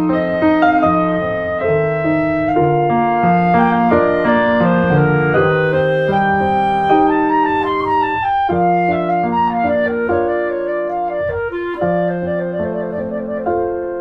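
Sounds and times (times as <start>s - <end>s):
slow instrumental melody: 0.0s - 14.0s.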